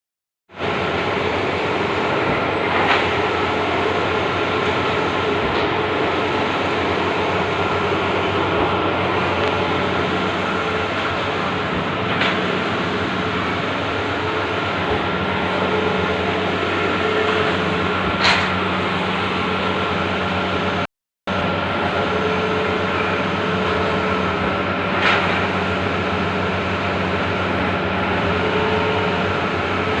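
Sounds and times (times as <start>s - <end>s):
printer whirring and humming: 0.5s - 30.0s.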